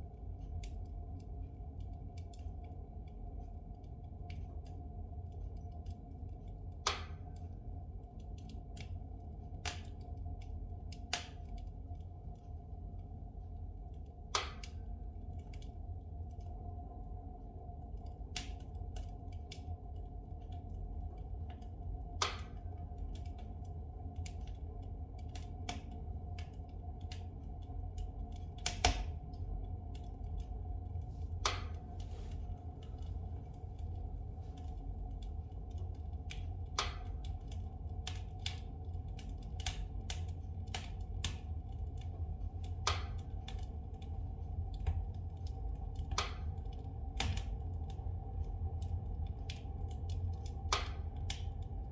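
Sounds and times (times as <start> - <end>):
fire crackling and popping: 0.0 - 51.9
low rumble of fire: 0.0 - 51.9.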